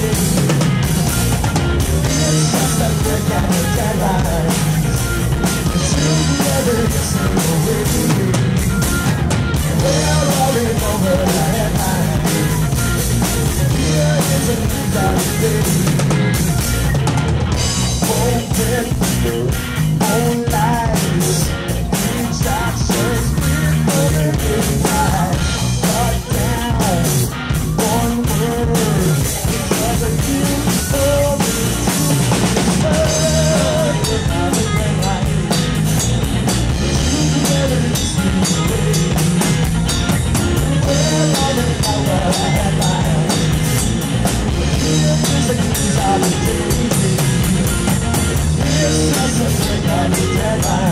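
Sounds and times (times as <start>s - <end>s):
man singing: 0.0s - 1.1s, 1.7s - 16.4s, 17.8s - 50.9s
drum kit beat: 0.0s - 50.9s
electric guitar: 0.0s - 50.9s
rock band playing: 0.0s - 50.9s.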